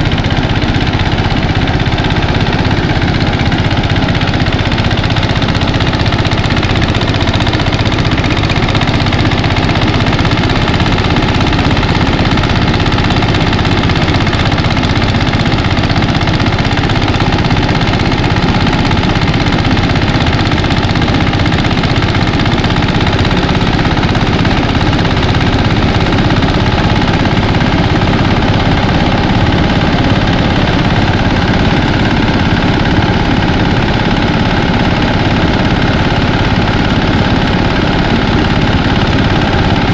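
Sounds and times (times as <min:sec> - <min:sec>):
rice thresher engine droning: 0:00.0 - 0:39.9.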